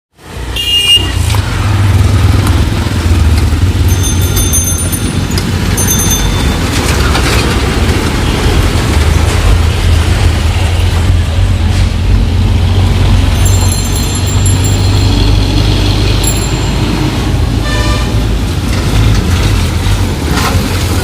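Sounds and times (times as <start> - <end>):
heavy traffic: 0.1 - 21.0.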